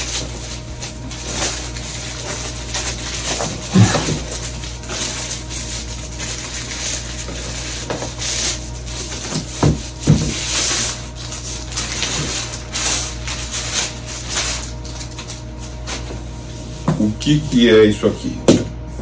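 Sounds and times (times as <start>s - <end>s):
plastic bag rustling: 0.0s - 16.8s.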